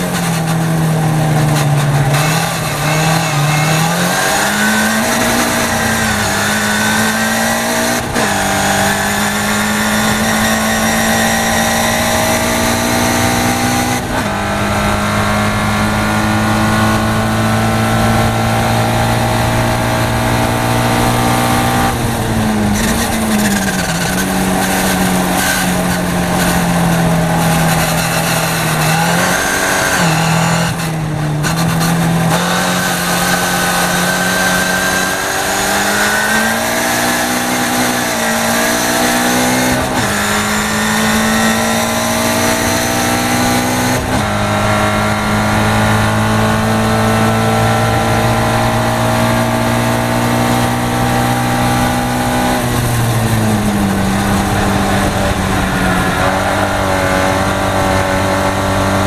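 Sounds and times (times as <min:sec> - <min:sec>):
race car engine revving: 0:00.0 - 0:59.0
wind and road noise: 0:00.0 - 0:59.0.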